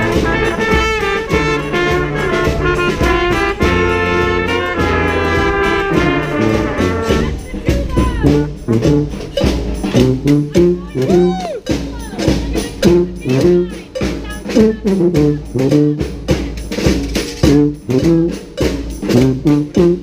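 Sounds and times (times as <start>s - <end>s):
brass band playing cumbia: 0.0s - 20.0s.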